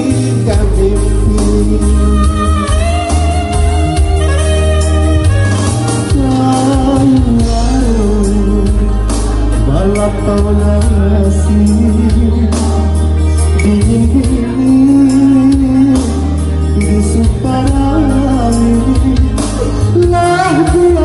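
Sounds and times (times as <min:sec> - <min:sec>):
electronic keyboard with heavy bass: 0:00.0 - 0:21.0
man singing through microphone: 0:00.0 - 0:21.0.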